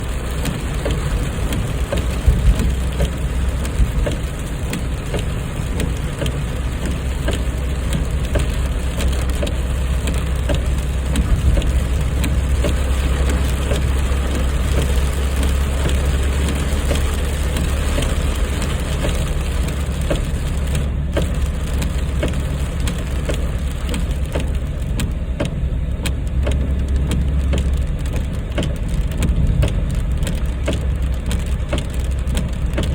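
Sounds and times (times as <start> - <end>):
car engine and road drone: 0.0 - 32.9
raindrops clicking on car: 0.0 - 32.9.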